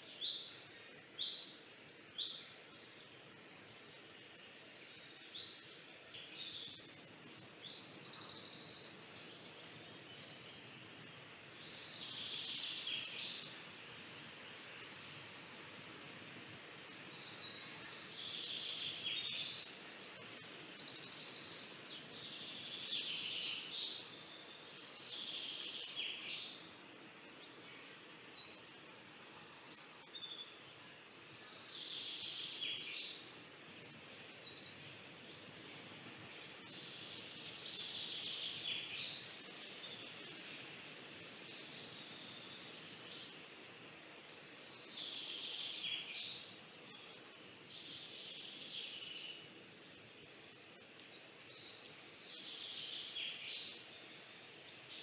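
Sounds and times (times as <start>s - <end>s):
faint steady hiss: 0.0s - 55.0s
birds chirping and singing: 3.8s - 43.6s, 44.4s - 49.9s, 50.5s - 55.0s.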